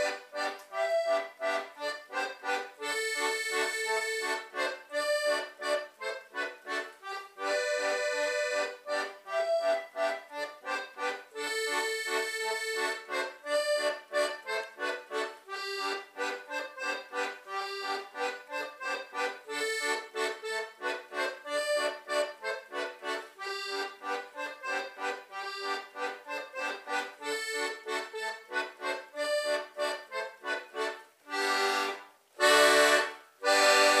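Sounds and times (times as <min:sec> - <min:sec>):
concertina dance tune: 0:00.0 - 0:34.0.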